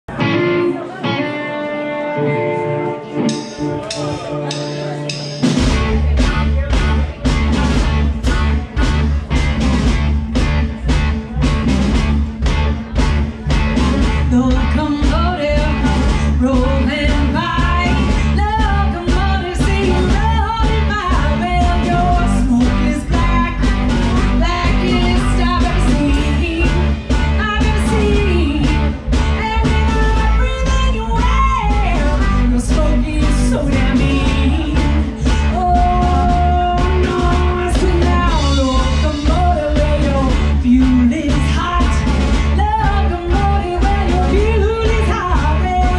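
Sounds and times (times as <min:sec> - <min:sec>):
bending lead guitar melody: 0:00.0 - 0:45.9
electric guitar and bass: 0:00.0 - 0:45.9
drum kit beat: 0:03.0 - 0:45.9.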